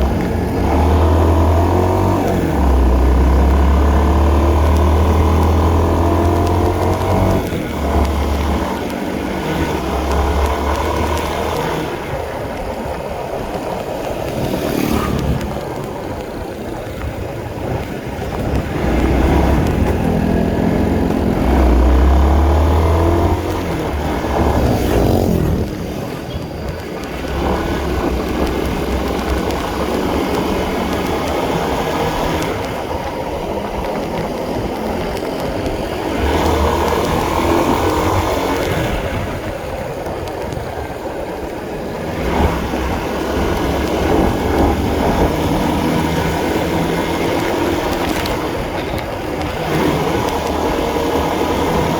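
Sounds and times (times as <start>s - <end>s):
motorcycle engine revving: 0.0s - 40.5s, 41.8s - 51.9s.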